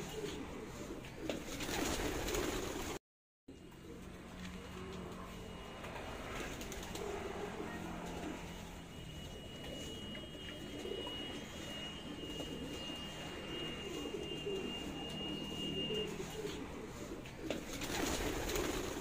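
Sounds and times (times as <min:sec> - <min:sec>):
pigeons cooing: 0:00.0 - 0:02.9, 0:03.6 - 0:19.0.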